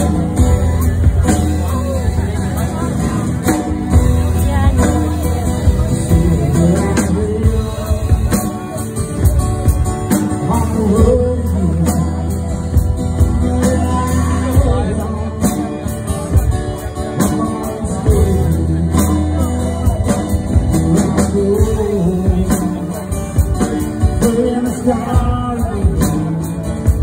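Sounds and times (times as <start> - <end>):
acoustic guitar playing slow rock: 0.0 - 27.0
drum kit steady beat: 0.0 - 27.0.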